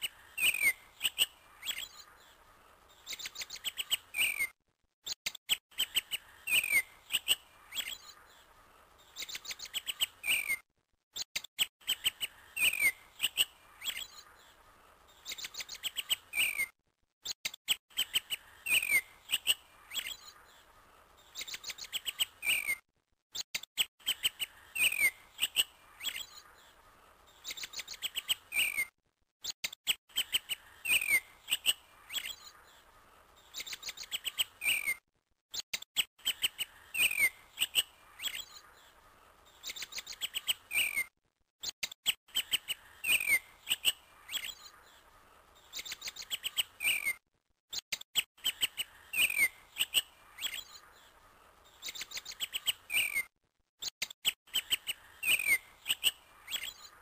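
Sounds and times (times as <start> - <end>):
whistled bird notes: 0.0 - 2.1, 2.9 - 8.2, 9.0 - 10.6, 11.3 - 16.7, 17.7 - 20.6, 21.2 - 22.8, 23.8 - 28.9, 29.6 - 32.8, 33.4 - 38.7, 39.5 - 41.1, 42.0 - 45.0, 45.6 - 47.2, 48.2 - 57.0
birds chirping: 0.0 - 10.6, 11.2 - 57.0.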